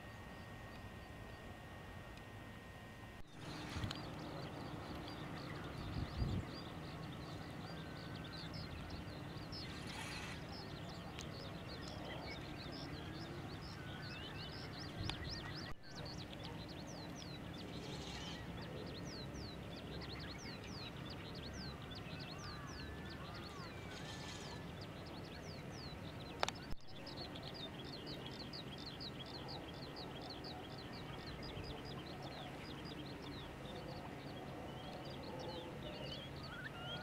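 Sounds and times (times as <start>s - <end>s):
shorebirds chirping: 3.3s - 37.0s.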